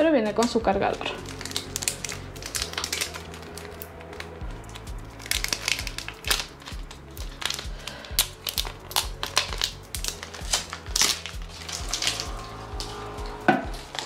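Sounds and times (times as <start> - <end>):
background music with low beat: 0.0 - 14.0
plastic wrap crinkling: 0.0 - 14.0.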